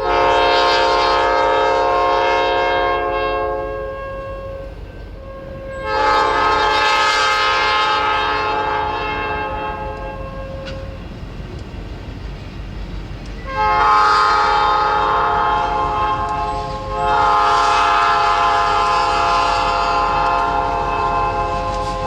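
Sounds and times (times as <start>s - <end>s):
locomotive air horn blasts: 0.0s - 11.0s, 13.5s - 22.0s
low rumble of train: 0.0s - 22.0s.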